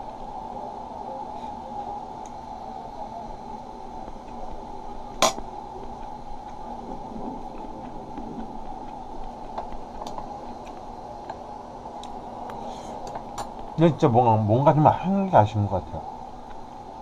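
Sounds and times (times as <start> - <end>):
room noise hum: 0.0 - 17.0.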